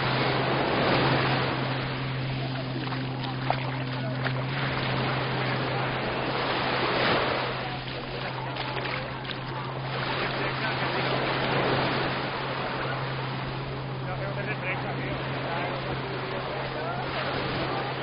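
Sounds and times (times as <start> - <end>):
constant low hum: 0.0 - 18.0
surf washing onto beach: 0.0 - 18.0.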